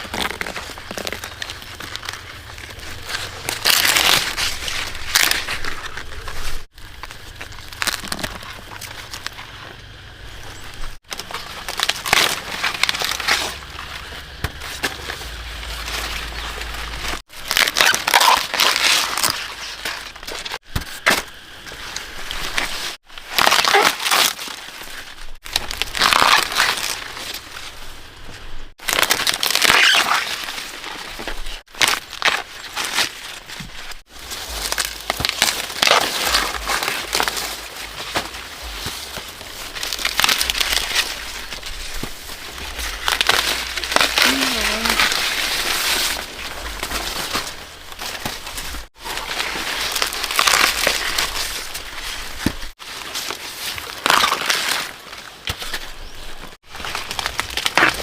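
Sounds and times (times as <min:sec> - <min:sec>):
dry leaves rustling: 0:00.0 - 0:58.0.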